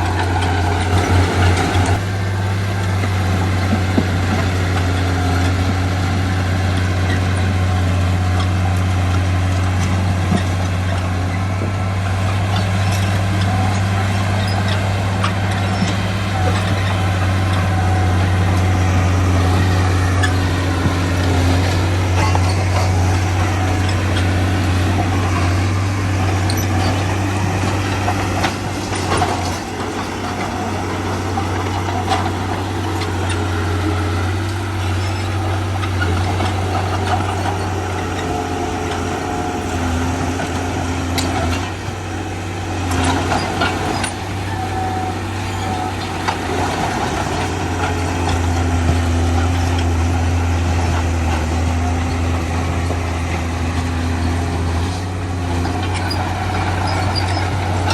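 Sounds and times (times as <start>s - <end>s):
heavy diesel engine under load: 0.0s - 57.9s.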